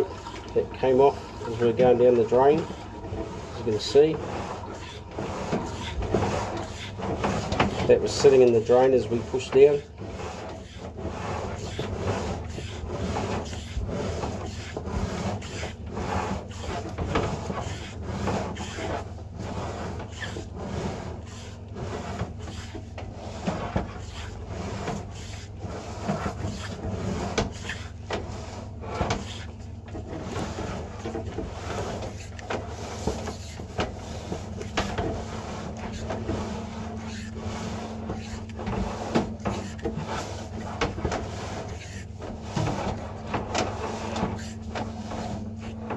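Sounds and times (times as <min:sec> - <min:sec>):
push rod rubbing in pipe: 0:00.0 - 0:45.9
steady low hum: 0:00.0 - 0:45.9.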